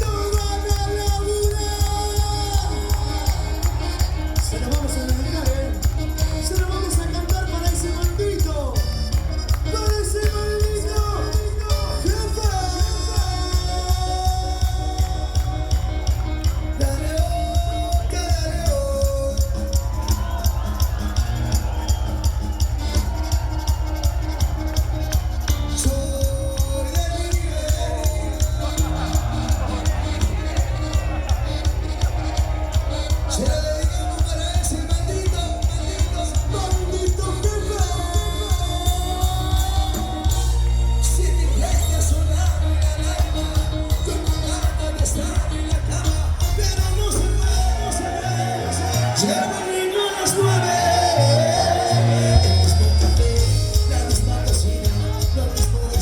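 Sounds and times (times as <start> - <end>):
person singing: 0.0 - 21.8, 32.8 - 56.0
bass line: 0.0 - 56.0
live band playing instrumental: 0.0 - 56.0
steady percussion: 0.0 - 56.0.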